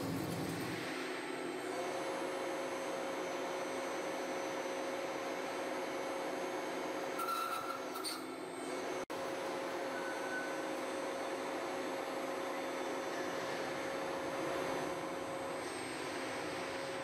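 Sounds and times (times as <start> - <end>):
machine humming with steady tone: 0.0 - 17.0.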